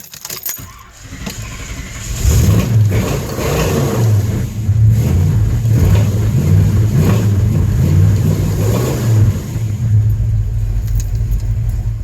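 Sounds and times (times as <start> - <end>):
car engine revving and idling: 0.9 - 12.0.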